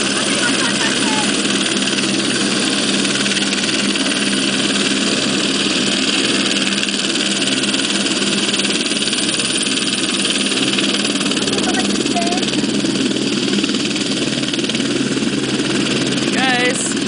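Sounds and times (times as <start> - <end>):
helicopter turbine and rotor: 0.0 - 17.0.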